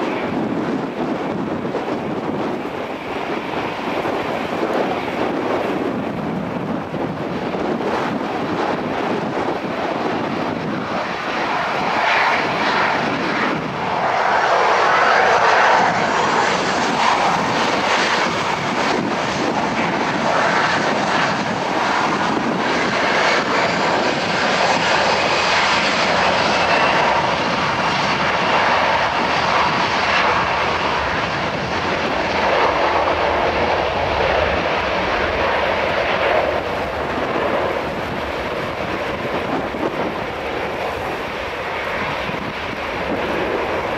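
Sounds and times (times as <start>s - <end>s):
jet engine roar with whine: 0.0s - 43.9s.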